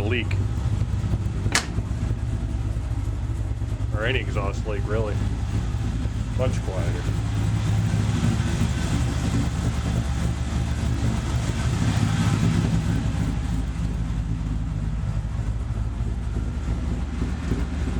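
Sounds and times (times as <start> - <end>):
engine low rumble: 0.0 - 17.9.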